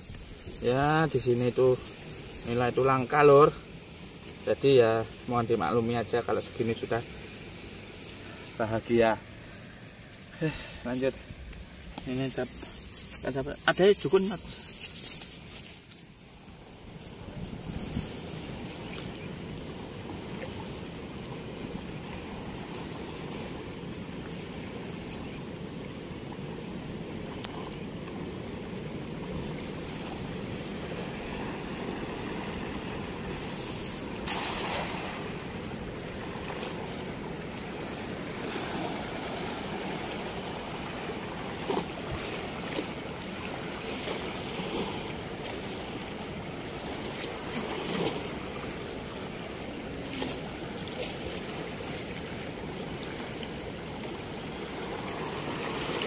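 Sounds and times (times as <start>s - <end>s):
river water rushing: 0.0s - 56.0s
water splashes: 0.0s - 56.0s.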